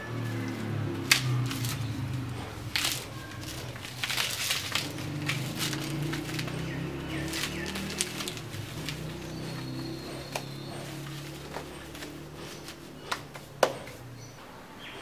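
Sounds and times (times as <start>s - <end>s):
dry fronds and twigs crackling: 0.1s - 13.4s.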